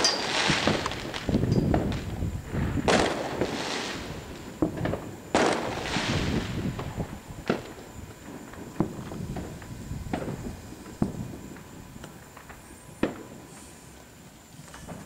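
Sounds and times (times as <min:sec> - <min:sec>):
loud firework bangs with echo: 0:00.0 - 0:11.8, 0:12.4 - 0:13.5
small firework pops and cracks: 0:00.0 - 0:15.0.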